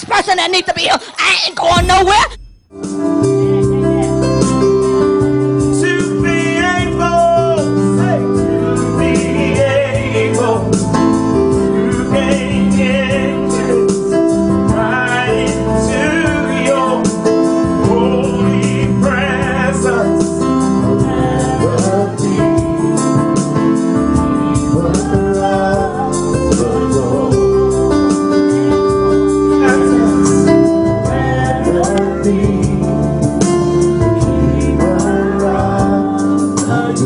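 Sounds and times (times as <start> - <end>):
solo voice singing gospel: 5.7 - 37.0.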